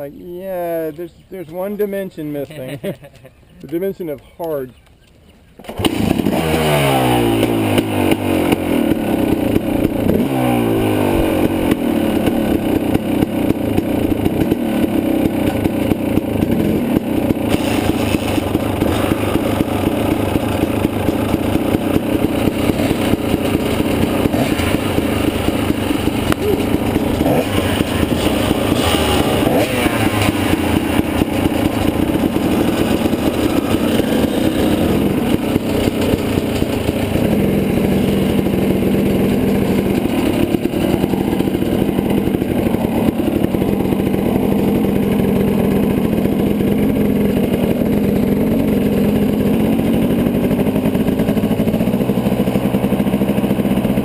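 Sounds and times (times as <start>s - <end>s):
dirt bike engine revving and idling: 5.6s - 54.0s.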